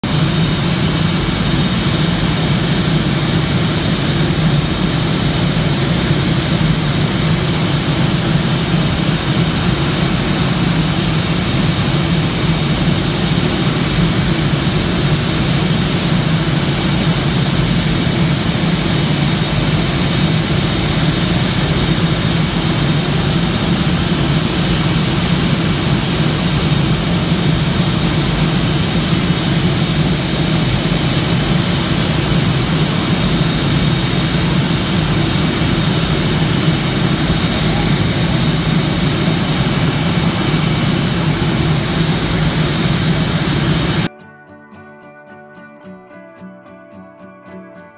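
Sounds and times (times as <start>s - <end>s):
high-pitched engine whine: 0.0s - 44.1s
jet engines idling: 0.0s - 44.1s.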